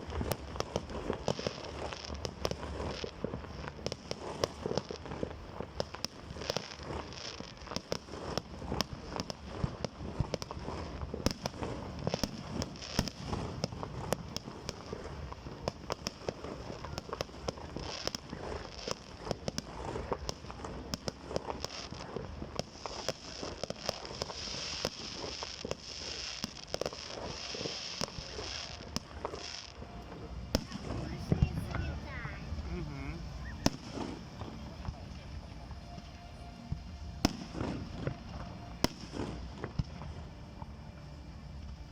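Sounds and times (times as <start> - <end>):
fireworks bangs and pops: 0.0 - 40.8
fireworks crackling: 0.0 - 41.9.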